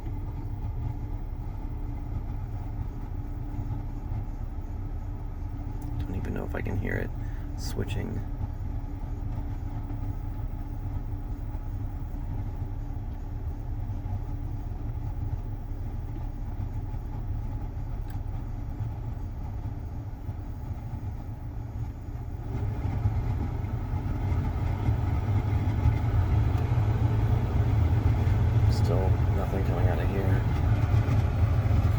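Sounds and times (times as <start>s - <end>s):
blower fan running: 0.0s - 31.9s
engine idling hum: 0.0s - 31.9s.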